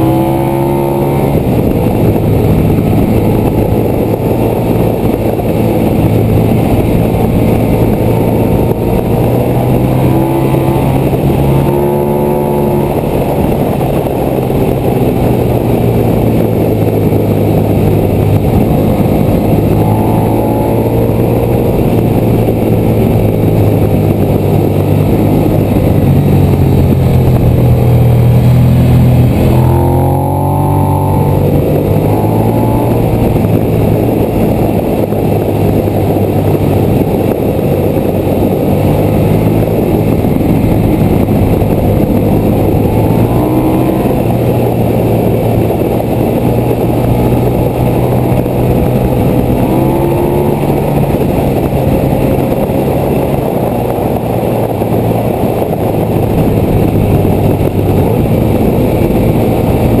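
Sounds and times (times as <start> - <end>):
motorcycle engine revving: 0.0 - 60.0
wind rushing: 0.0 - 60.0.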